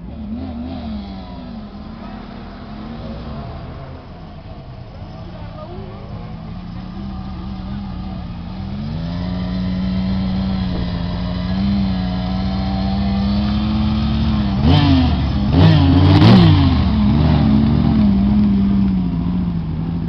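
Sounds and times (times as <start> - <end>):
off-road vehicle engine under load: 0.0 - 20.0.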